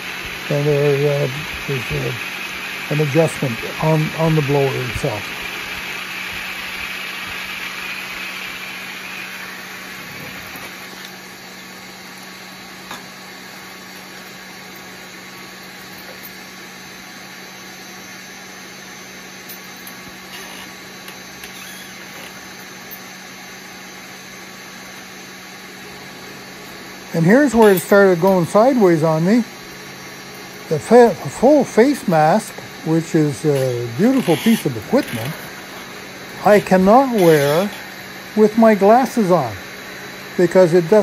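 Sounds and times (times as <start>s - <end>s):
respirator blower humming: 0.0s - 41.0s.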